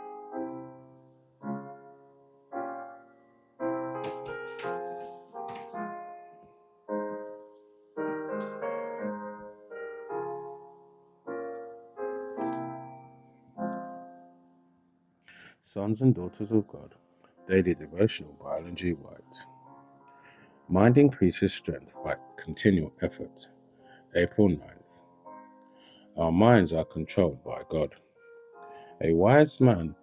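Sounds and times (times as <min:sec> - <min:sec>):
solo piano playing slow chords: 0:00.0 - 0:15.1, 0:16.2 - 0:30.0.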